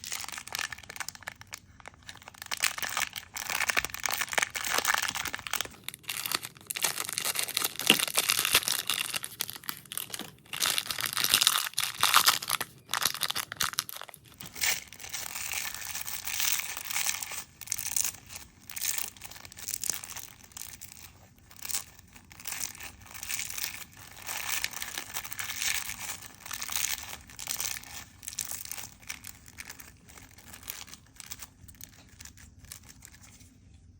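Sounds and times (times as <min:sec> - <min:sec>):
foam slime crackling: 0:00.0 - 0:33.2.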